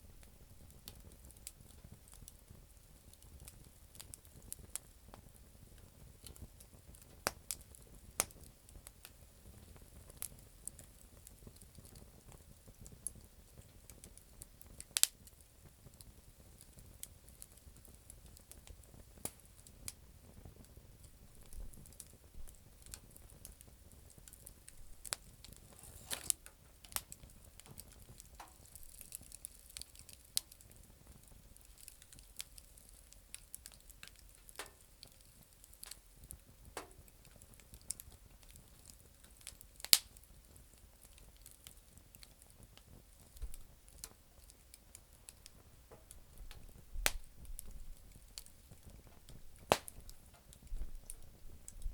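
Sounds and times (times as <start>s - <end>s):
campfire crackling and popping: 0.0s - 51.9s
faint low hiss: 0.0s - 51.9s.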